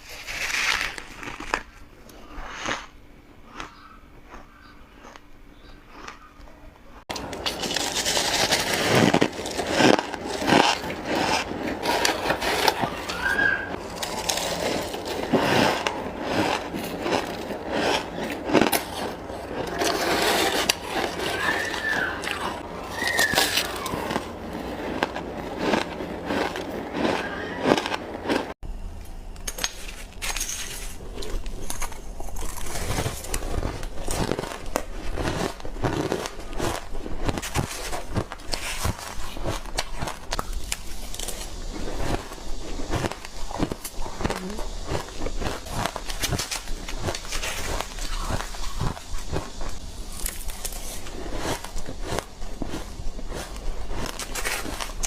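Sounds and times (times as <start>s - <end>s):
ice crunching between teeth: 0.0s - 5.3s, 7.1s - 28.6s, 29.4s - 55.0s.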